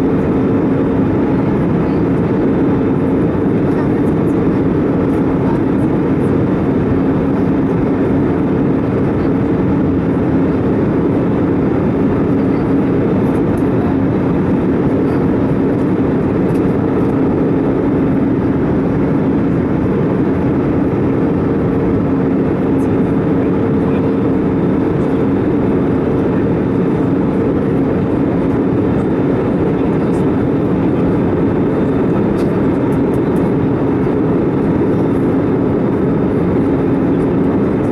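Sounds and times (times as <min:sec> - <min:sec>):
constant low hum: 0:00.0 - 0:37.9
roar of engines and airflow: 0:00.0 - 0:37.9.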